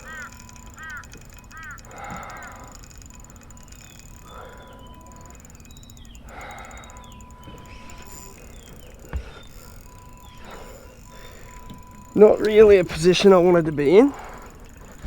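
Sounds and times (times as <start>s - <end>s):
bird chirps: 0.0s - 15.0s
faint steady tone: 0.0s - 15.0s
low background hum: 0.0s - 15.0s.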